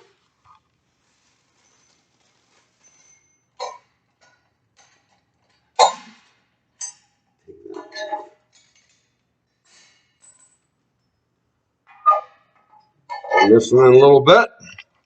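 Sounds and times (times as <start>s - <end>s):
metal tools clinking: 1.5s - 13.6s.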